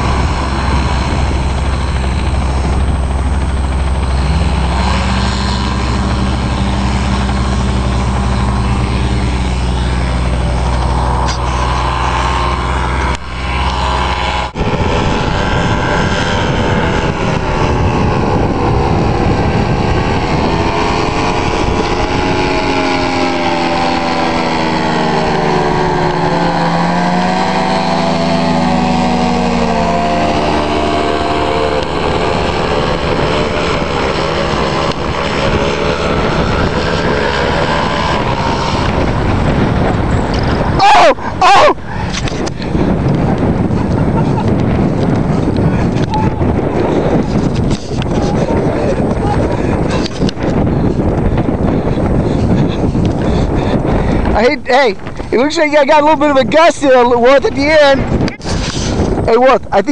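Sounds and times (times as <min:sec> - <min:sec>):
paramotor engine droning: 0:00.0 - 0:59.8.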